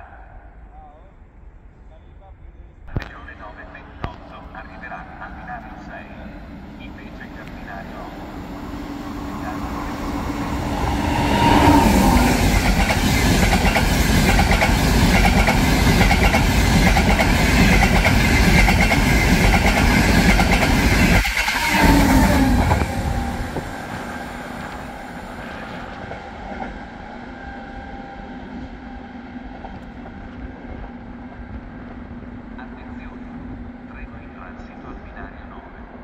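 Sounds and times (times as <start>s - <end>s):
train whine: 0.0s - 36.0s
high-speed train rushing past: 2.9s - 36.0s.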